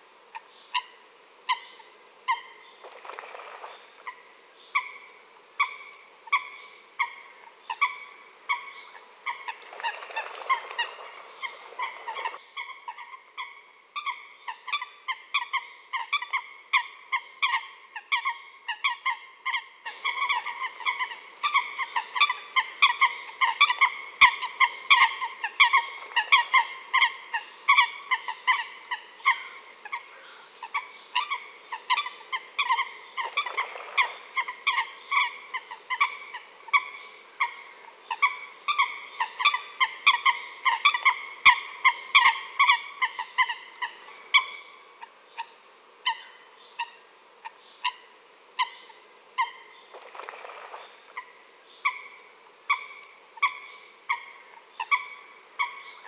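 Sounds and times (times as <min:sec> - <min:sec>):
coots calling: 0:00.0 - 0:56.0.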